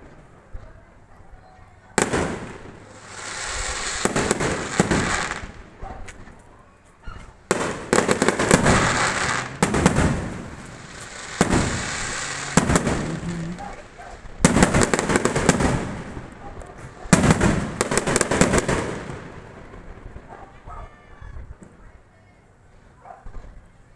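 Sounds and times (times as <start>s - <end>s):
fireworks bangs and crackles: 1.7s - 22.0s.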